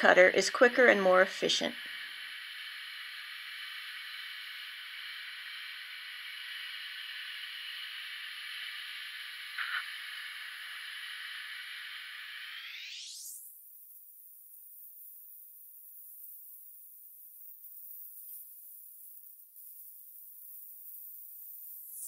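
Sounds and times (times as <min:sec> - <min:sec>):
plasma cutter hissing: 0:00.0 - 0:22.0.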